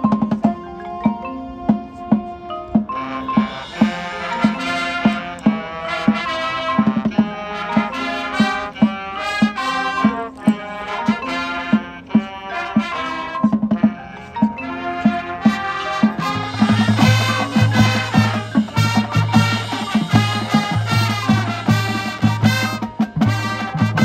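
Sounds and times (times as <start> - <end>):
brass chords: 0.0 - 24.0
steady drum beat: 1.7 - 24.0.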